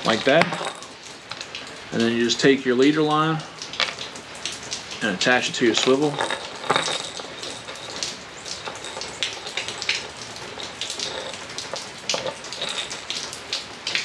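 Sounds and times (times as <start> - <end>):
drops dripping on surfaces: 0.0 - 14.0
steady rain falling: 0.0 - 14.0.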